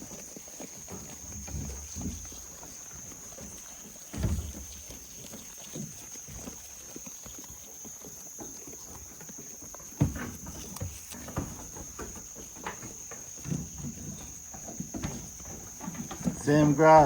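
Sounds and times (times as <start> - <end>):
goats scuffling over grass: 0.0 - 17.0
high insect drone: 0.0 - 17.0
rustles: 0.0 - 17.0.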